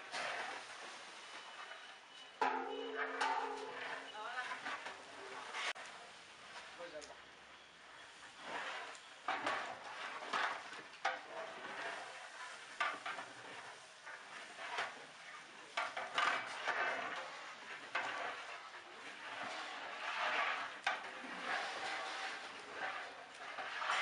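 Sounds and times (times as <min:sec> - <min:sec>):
metal utensil scraping a metal pot: 0:00.0 - 0:00.8, 0:01.4 - 0:05.8, 0:08.0 - 0:24.0.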